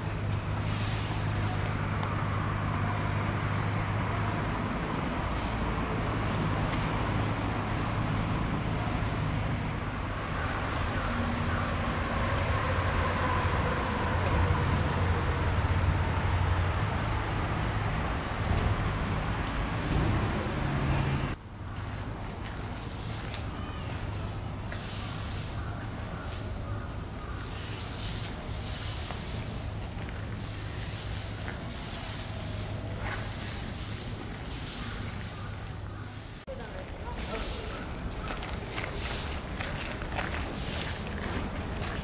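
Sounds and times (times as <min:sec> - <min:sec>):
traffic rumble: 0:00.0 - 0:42.0.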